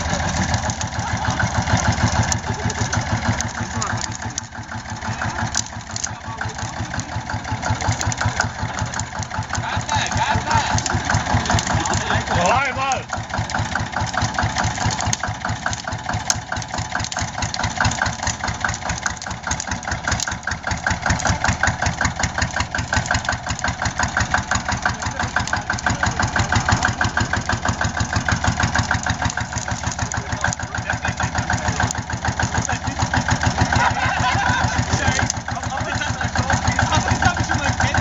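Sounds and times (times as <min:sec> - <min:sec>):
diesel tractor engine idling: 0:00.0 - 0:38.0.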